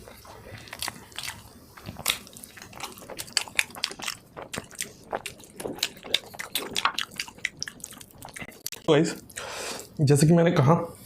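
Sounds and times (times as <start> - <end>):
chewing food: 0.0 - 10.0.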